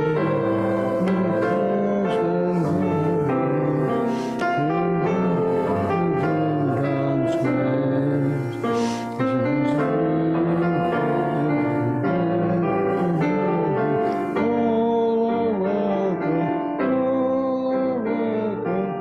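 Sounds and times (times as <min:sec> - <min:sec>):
congregation singing: 0:00.0 - 0:18.9
piano playing hymn: 0:00.0 - 0:19.0.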